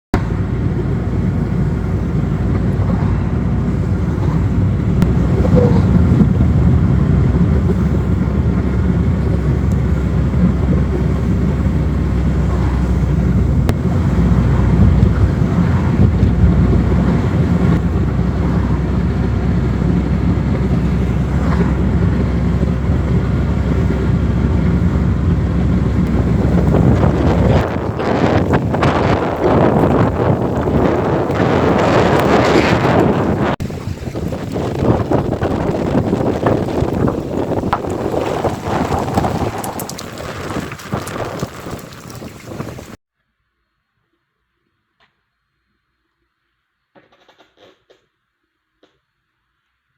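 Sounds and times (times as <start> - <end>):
gusty wind buffeting microphone: 0.1 - 43.0.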